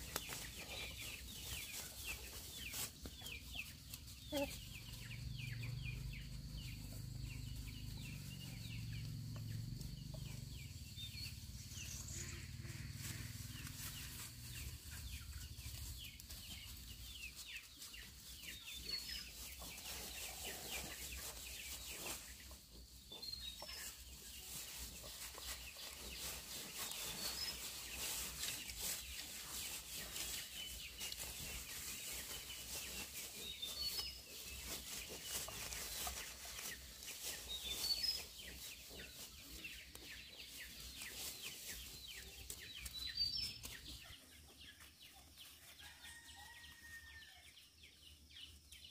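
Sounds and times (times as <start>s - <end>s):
chickens clucking: 0.0s - 47.0s.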